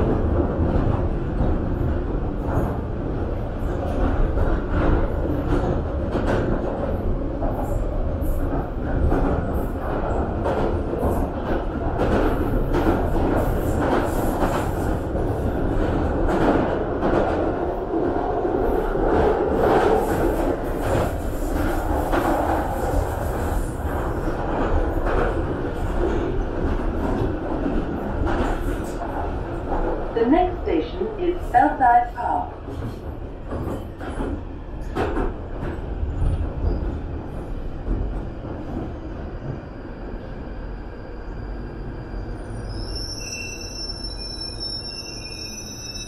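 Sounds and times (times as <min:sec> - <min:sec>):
train rumbling in tunnel: 0:00.0 - 0:46.0.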